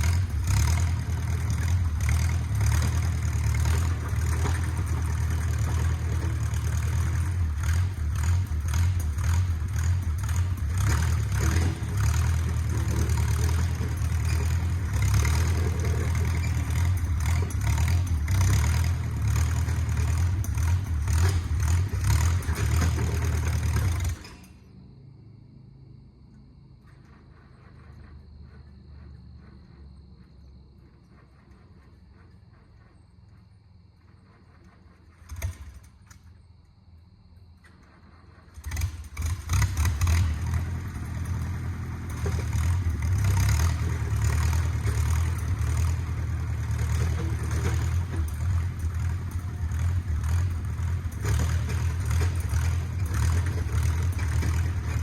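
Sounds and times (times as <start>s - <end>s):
bulldozer engine rumbling: 0.0s - 55.0s
engine clatter: 0.0s - 55.0s.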